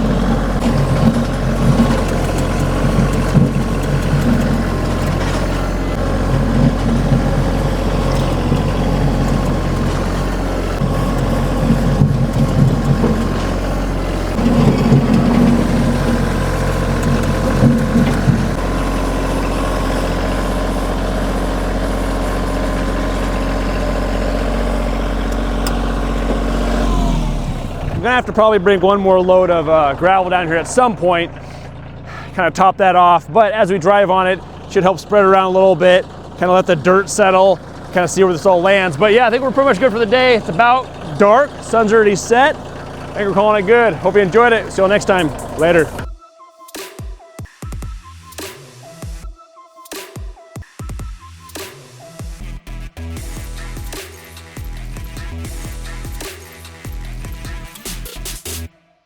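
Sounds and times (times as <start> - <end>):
tractor diesel engine running: 0.0 - 46.2, 51.4 - 58.7.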